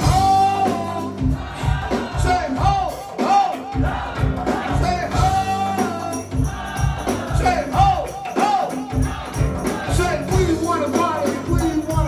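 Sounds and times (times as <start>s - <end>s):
kick drum beat and percussion: 0.0s - 12.0s
person singing: 0.0s - 12.0s.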